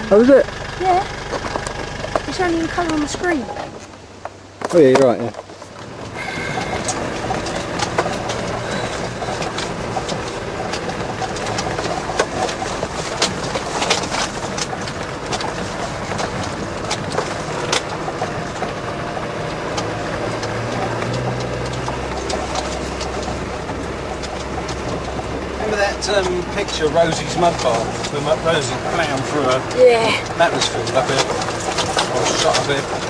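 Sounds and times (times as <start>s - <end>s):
diesel engine from inside cab: 0.0s - 33.0s
bodywork knocking and clattering: 1.2s - 33.0s.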